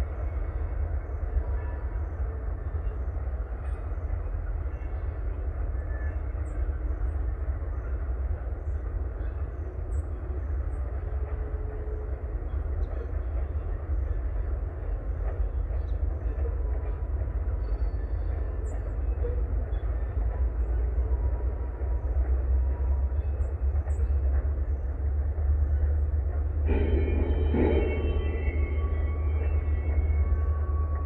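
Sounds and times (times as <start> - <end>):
diesel locomotives rumbling: 0.0 - 31.0.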